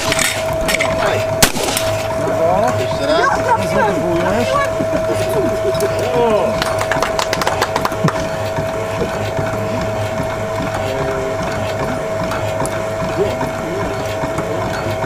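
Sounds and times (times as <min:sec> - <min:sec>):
motor whining: 0:00.0 - 0:15.0.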